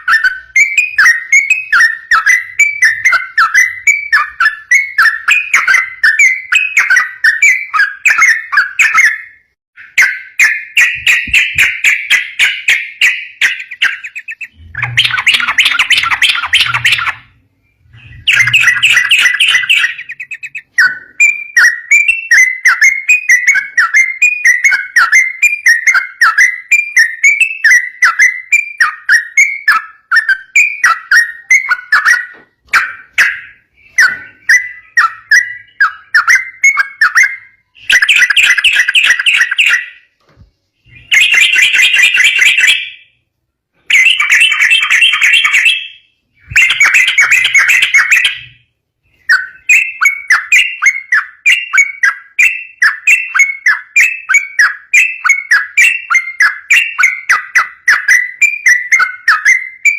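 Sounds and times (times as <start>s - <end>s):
bulbul singing: 0.0s - 43.2s, 43.8s - 59.9s.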